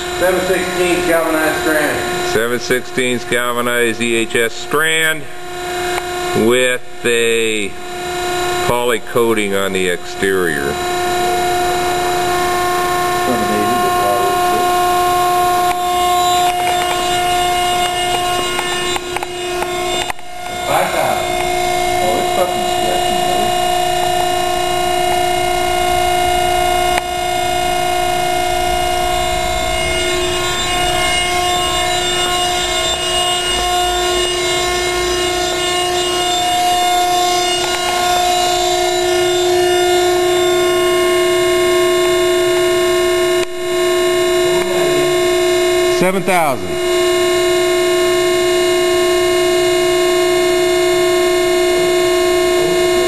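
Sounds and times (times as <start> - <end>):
hydraulic power unit whining: 0.0 - 53.0.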